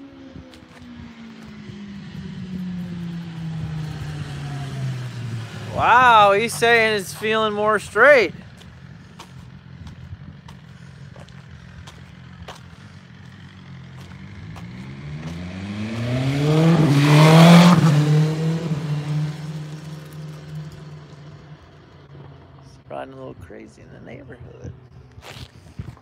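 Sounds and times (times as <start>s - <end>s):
motorcycle accelerating past: 0.0s - 22.8s.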